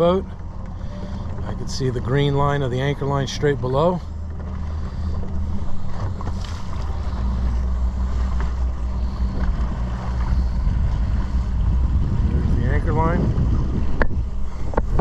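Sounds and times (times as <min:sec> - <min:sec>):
boat engine running: 0:00.0 - 0:15.0
water washing along hull: 0:00.0 - 0:15.0
wind buffeting microphone: 0:00.0 - 0:15.0.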